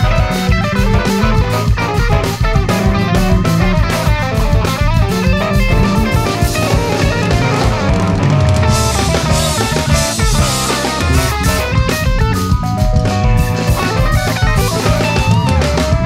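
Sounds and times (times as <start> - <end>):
drum kit: 0.0 - 16.0
electric bass: 0.0 - 16.0
lead electric guitar: 0.0 - 16.0.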